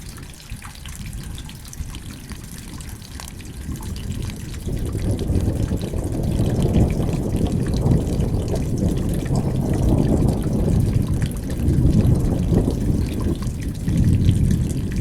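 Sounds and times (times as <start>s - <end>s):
rain falling: 0.0s - 15.0s
low rumble of thunder: 0.9s - 15.0s.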